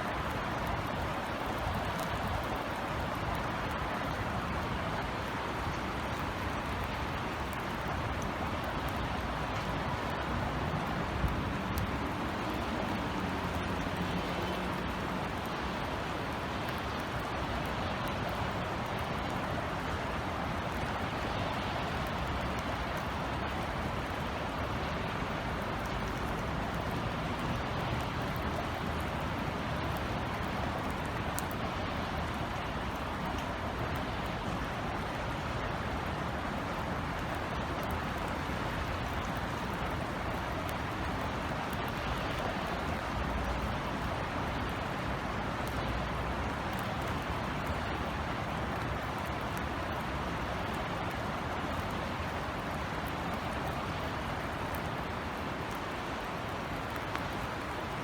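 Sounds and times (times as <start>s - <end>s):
distant city traffic rumble: 0.0s - 58.0s.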